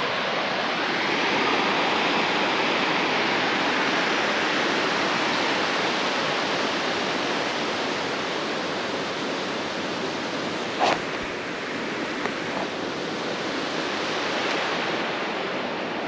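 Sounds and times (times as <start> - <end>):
rushing churning water: 0.0 - 16.0.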